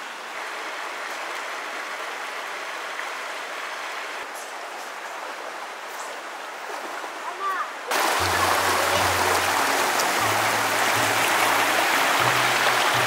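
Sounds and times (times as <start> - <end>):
river water rushing over stones: 0.0 - 13.0.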